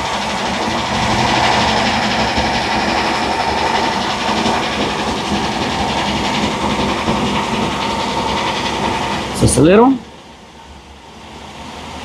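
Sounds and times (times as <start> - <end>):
misfiring engine running: 0.0 - 12.0.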